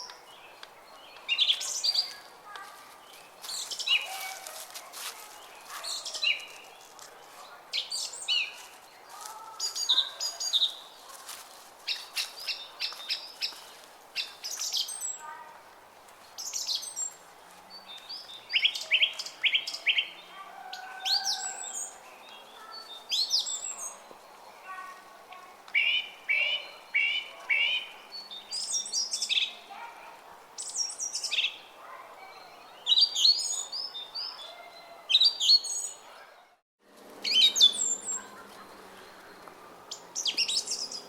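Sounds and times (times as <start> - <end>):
songbirds chirping and singing: 0.0 - 15.4, 16.2 - 36.5, 37.2 - 41.0.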